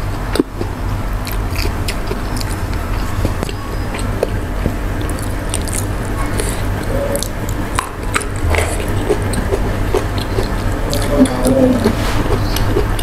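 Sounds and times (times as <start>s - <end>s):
chewing crunchy vegetables: 0.0s - 13.0s
wet mouth sounds: 0.0s - 13.0s.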